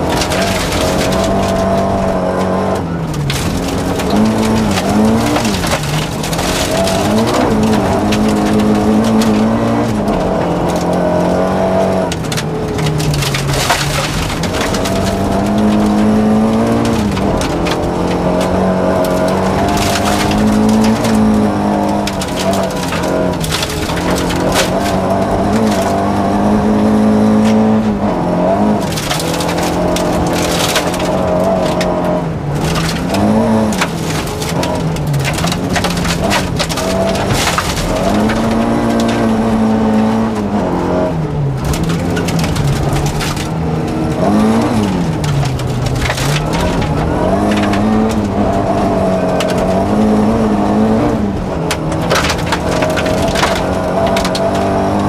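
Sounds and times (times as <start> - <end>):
gravel rattling against car: 0.0 - 55.0
rally car engine revving: 0.0 - 55.0.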